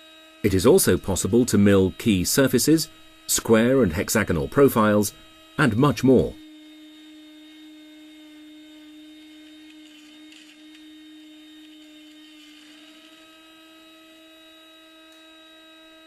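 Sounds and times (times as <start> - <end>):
small electric motor humming: 0.0 - 16.0.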